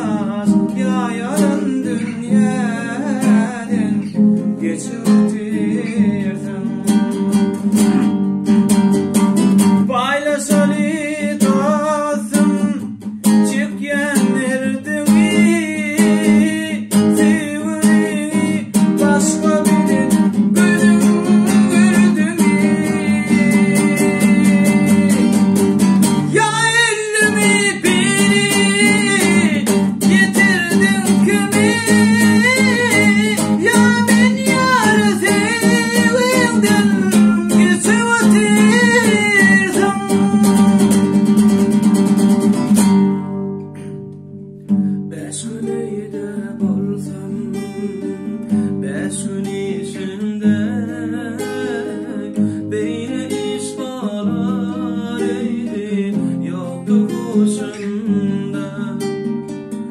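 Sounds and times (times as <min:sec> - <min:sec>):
man singing: 0:00.0 - 0:08.1, 0:09.6 - 0:41.8, 0:45.1 - 0:59.9
classical guitars strummed: 0:00.0 - 0:59.9.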